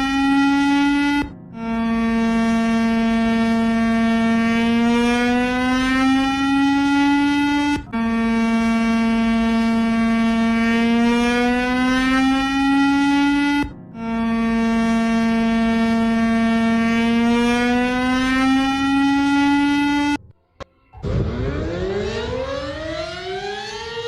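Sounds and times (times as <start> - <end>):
buzzy alarm tone rising in pitch: 0.0 - 20.3, 20.9 - 24.0.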